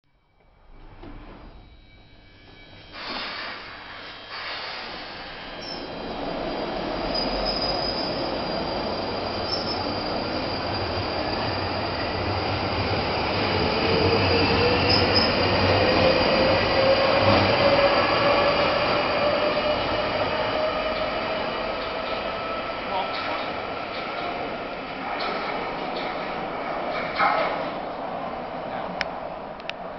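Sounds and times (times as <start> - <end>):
rising train whine: 0.1 - 29.9
train wheel and rail noise: 0.3 - 29.9.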